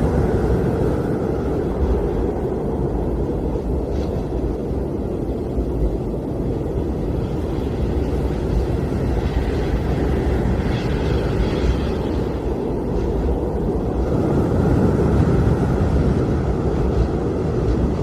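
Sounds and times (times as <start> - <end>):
blizzard wind rumbling: 0.0 - 18.0
high wind hiss: 0.0 - 18.0.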